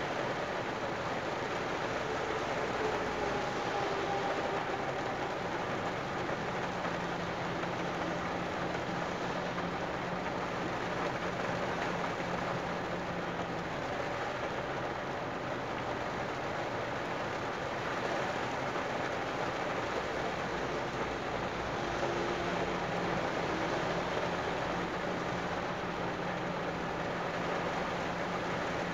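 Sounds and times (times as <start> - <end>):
heavy rain on a car: 0.0 - 28.9
tyres hissing on wet road: 0.0 - 28.9.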